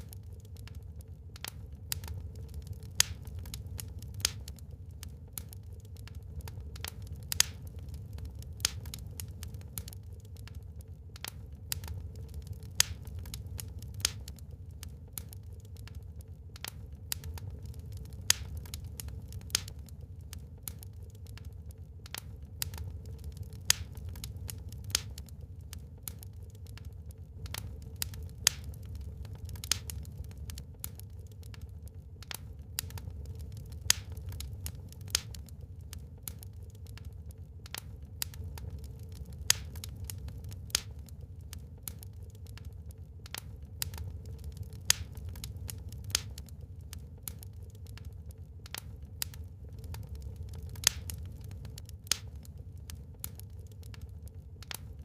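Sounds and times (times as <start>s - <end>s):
low steady rumble: 0.0s - 55.0s
wood fire crackling and popping: 0.0s - 55.0s.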